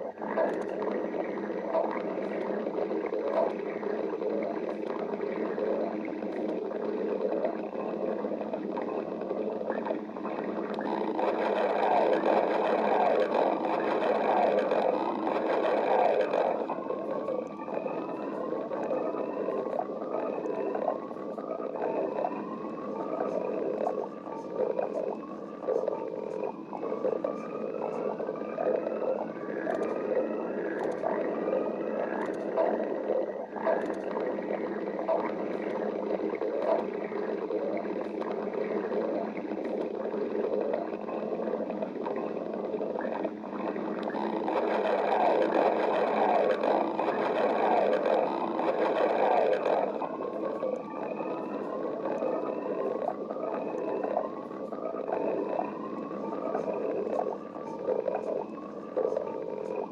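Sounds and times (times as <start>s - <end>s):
squeaky stomach gurgles: 0.0s - 59.9s
stomach growling and gurgling: 0.0s - 59.9s.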